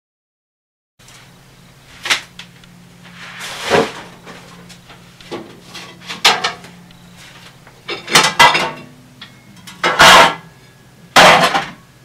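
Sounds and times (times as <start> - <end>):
steady low hum: 1.0 - 12.0.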